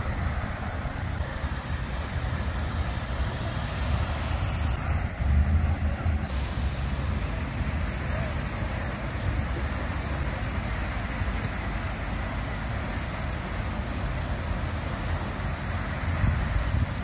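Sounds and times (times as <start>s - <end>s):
water fountain splashing: 0.0s - 17.0s.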